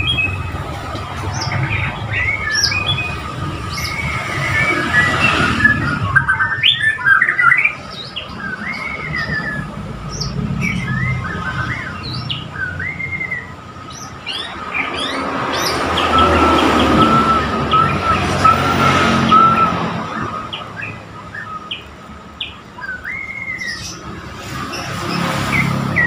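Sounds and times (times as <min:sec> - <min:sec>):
bird singing whistled phrases: 0:01.3 - 0:24.0.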